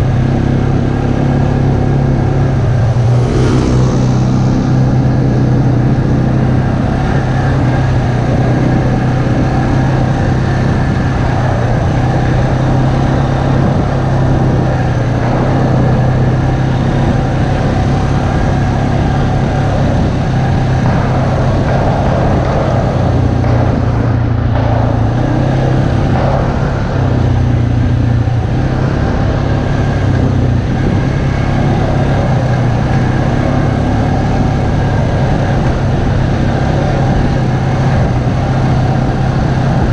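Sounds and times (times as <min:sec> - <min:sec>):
atv engine running: 0:00.0 - 0:39.9
wind and tyres rushing: 0:00.0 - 0:39.9.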